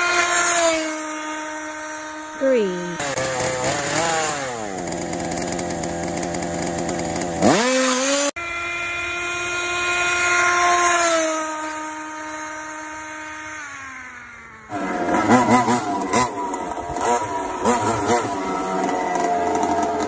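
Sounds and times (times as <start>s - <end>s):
buzzing toy car engine: 0.0s - 20.0s
smooth steady engine note: 0.0s - 20.0s.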